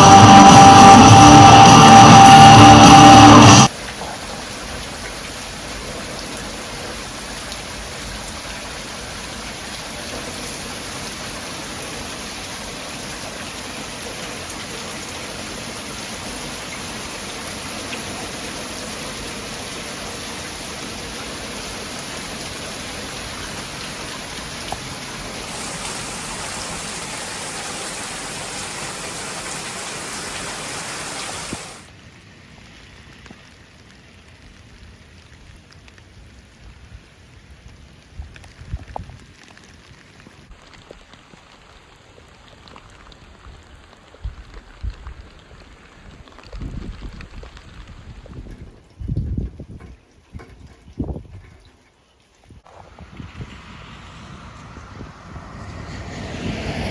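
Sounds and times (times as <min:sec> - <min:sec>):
heavy rain: 0:00.0 - 0:48.4, 0:52.6 - 0:56.9.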